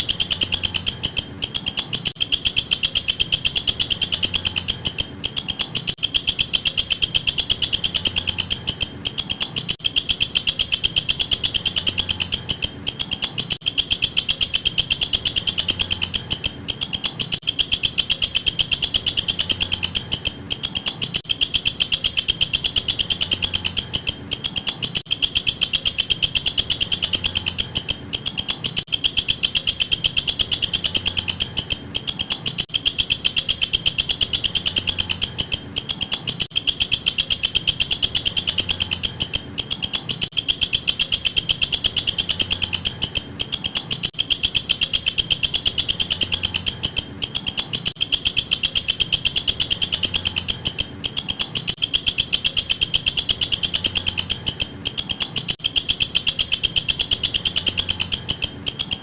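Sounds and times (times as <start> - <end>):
katydid high-pitched trill: 0.0 - 59.0.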